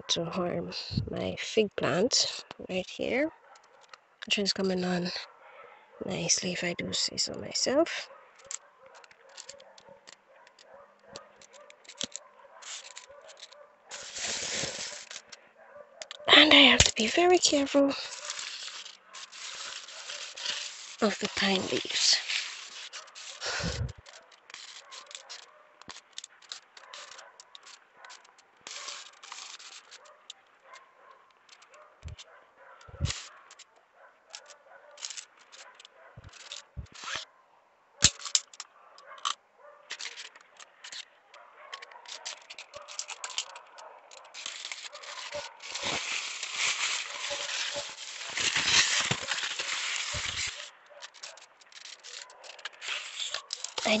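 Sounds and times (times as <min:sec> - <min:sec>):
pine needles and vines rustling: 0:00.1 - 0:37.3, 0:38.0 - 0:54.0.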